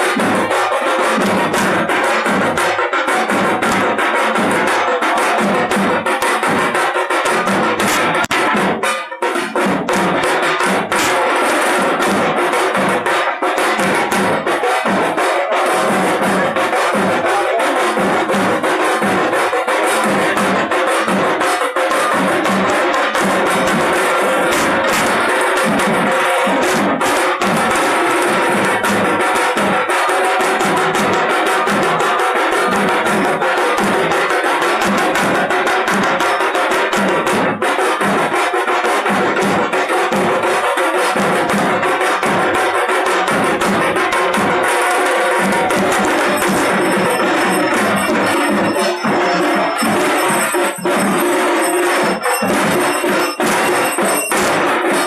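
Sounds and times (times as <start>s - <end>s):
barrel drums beaten with sticks: 0.0s - 55.0s.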